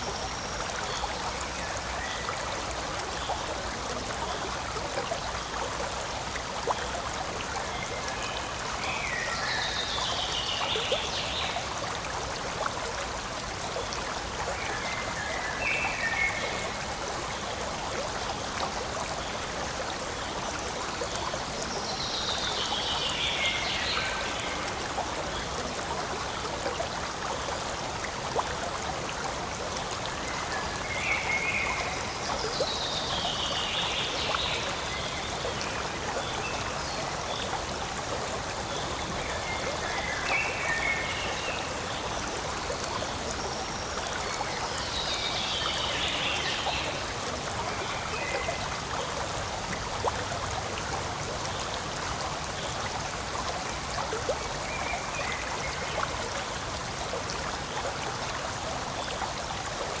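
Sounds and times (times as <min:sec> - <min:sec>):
stream flowing: 0:00.0 - 1:00.0.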